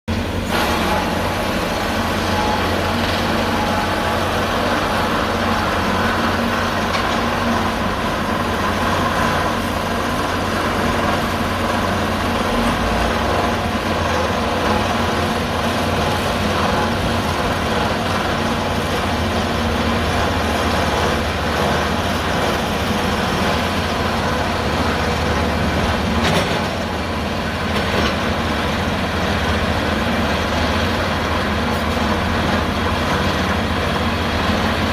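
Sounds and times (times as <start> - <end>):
diesel machinery running: 0.1 - 34.9.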